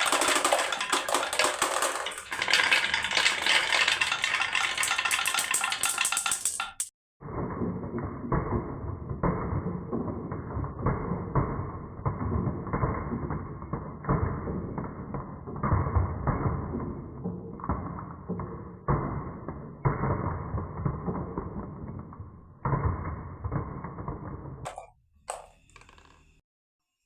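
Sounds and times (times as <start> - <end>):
marbles rolling down wooden run: 0.0 - 26.3.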